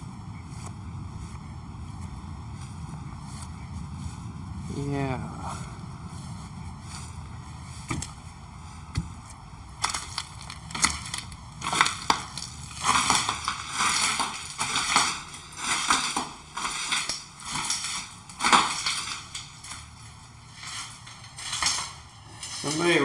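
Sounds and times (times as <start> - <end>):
crunching and crinkling rustles: 0.0 - 23.0.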